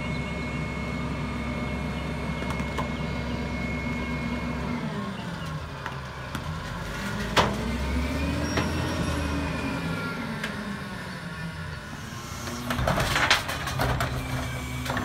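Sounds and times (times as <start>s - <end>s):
truck engine whining: 0.0s - 15.0s.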